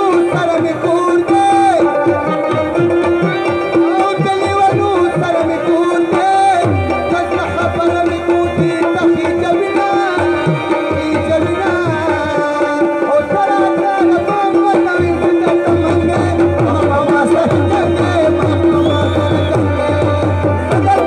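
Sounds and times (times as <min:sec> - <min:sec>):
tabla drumming: 0:00.0 - 0:21.0.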